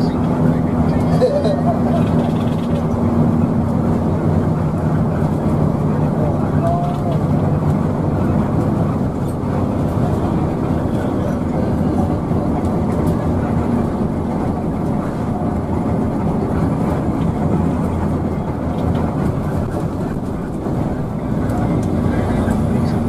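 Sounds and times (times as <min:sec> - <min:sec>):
bus engine and road drone: 0:00.0 - 0:23.0.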